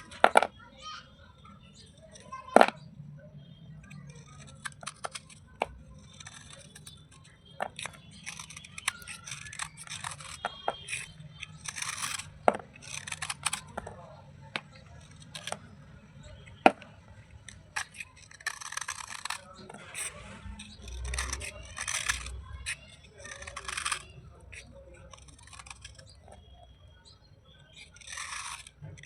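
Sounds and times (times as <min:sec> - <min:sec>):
slate pieces crunching and cracking: 0:03.9 - 0:29.0.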